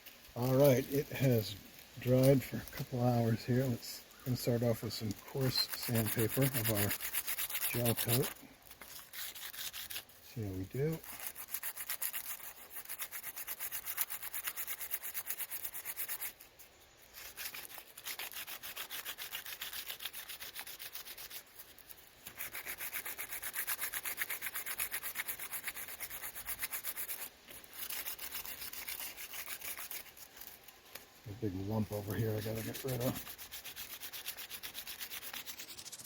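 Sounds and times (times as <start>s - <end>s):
sandpaper rubbing by hand: 0.4s - 30.7s, 31.4s - 36.0s.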